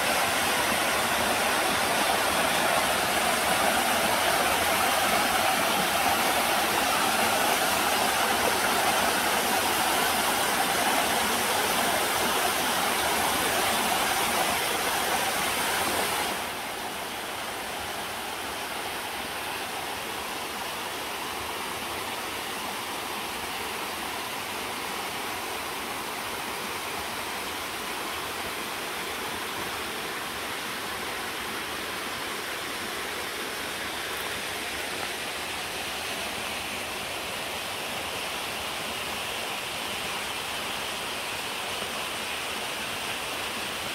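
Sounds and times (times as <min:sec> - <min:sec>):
stream rushing over rock: 0:00.0 - 0:43.9.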